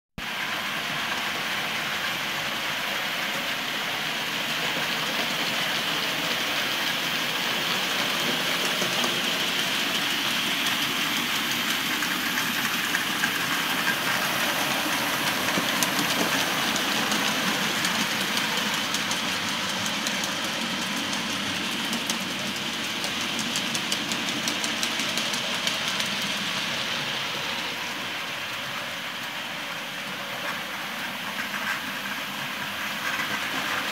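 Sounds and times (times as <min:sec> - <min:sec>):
model train motors whirring: 0:00.3 - 0:33.9
wheels clicking over rail joints: 0:00.4 - 0:33.9.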